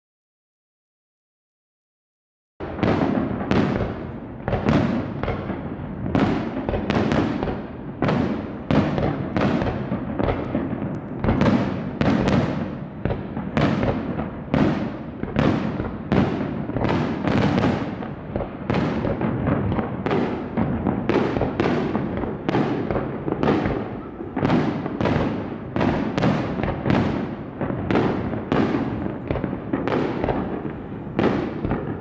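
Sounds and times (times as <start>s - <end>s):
fireworks banging: 2.6s - 32.0s.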